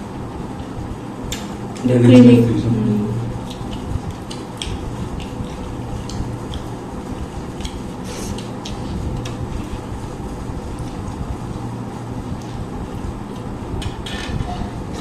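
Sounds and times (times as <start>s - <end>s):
people eating by hand: 0.0s - 15.0s
steady low hum: 0.0s - 15.0s.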